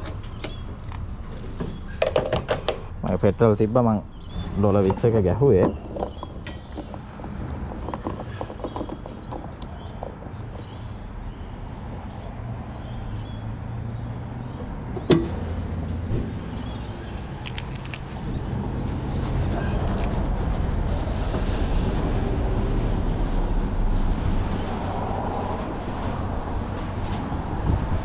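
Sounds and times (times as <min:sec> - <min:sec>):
car engines and traffic rumble: 0:00.0 - 0:28.0.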